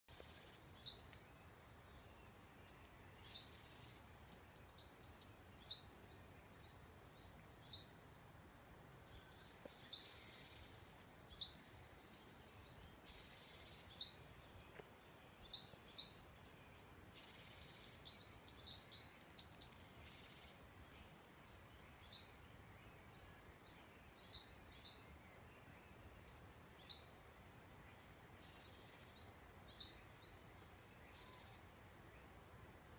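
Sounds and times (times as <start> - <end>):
birds singing: 0.1 - 8.3, 8.9 - 32.9
faint steady hiss: 0.1 - 32.9.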